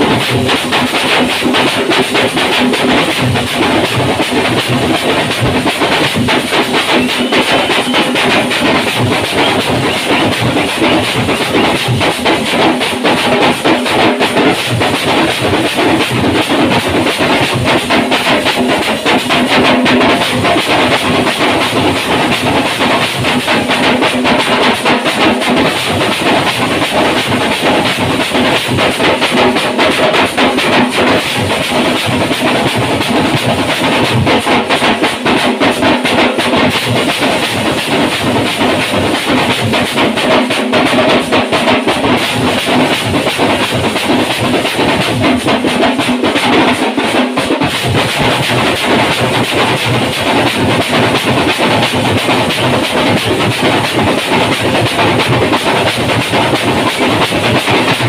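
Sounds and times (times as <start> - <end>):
frame drums beaten fast: 0.0 - 58.0.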